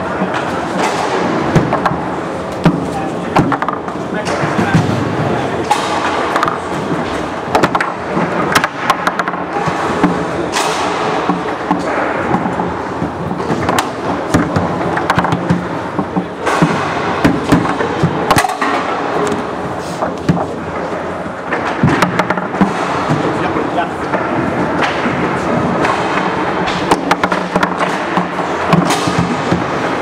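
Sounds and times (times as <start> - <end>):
foosball ball clacking: 0.0 - 30.0
foosball rods sliding and banging: 0.0 - 30.0.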